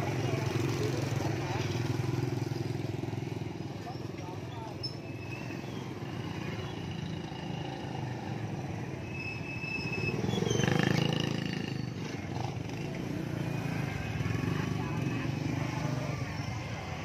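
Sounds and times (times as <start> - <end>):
motorbike and scooter engines: 0.0 - 17.0.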